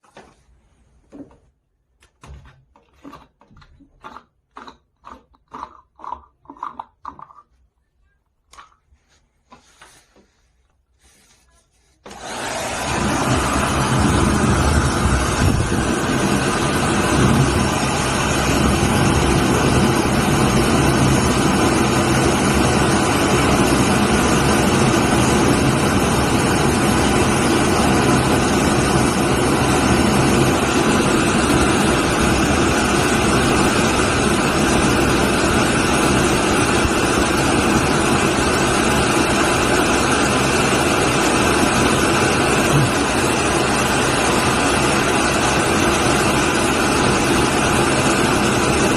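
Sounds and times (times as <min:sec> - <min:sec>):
washing machine whirring: 0:08.2 - 0:48.9.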